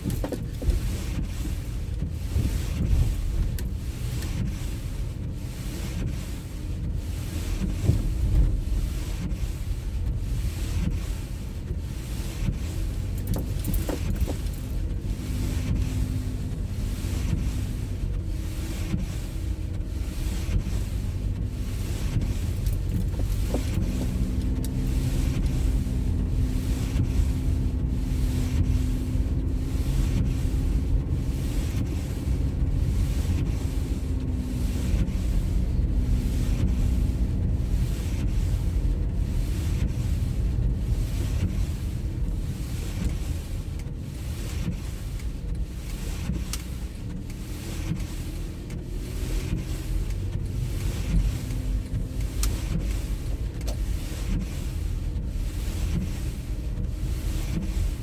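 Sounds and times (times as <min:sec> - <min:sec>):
faint engine hum: 0:00.0 - 0:58.0
tyres and engine rumbling: 0:00.0 - 0:58.0.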